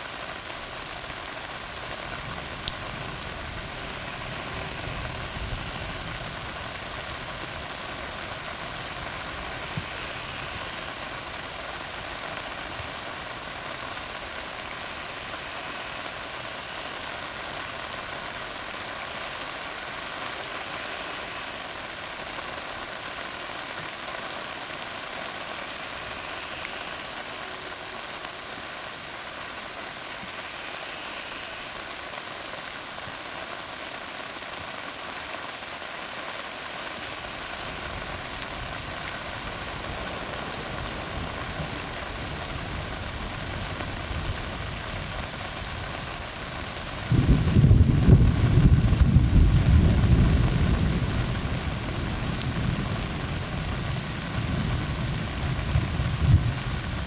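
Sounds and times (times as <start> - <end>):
rain on a road: 0.0 - 57.0.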